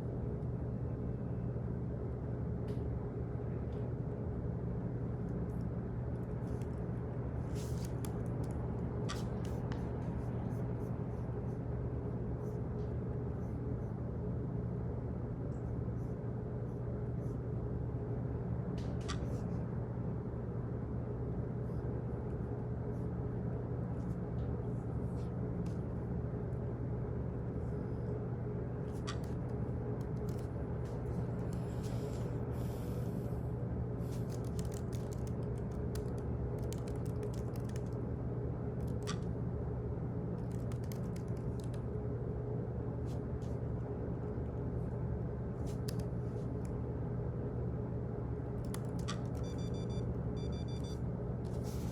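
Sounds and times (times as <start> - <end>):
low hum: 0.0 - 51.9.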